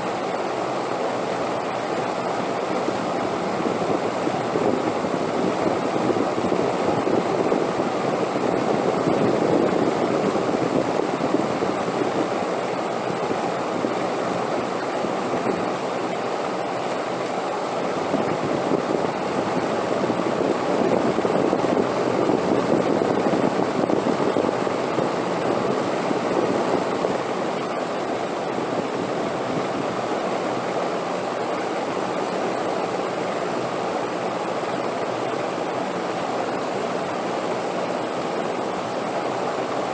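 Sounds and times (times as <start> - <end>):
wind blowing in gusts: 0.1 - 39.9.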